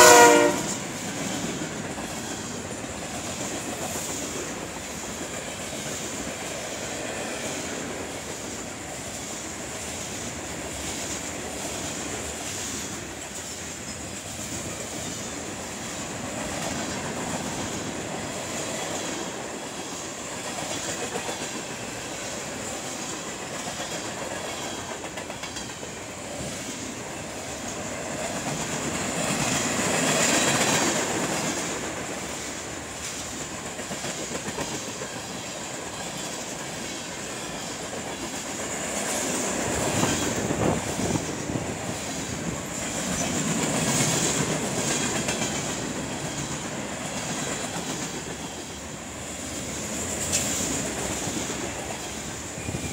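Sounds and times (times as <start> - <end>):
wheels clicking over rail joints: 0.3 - 48.8.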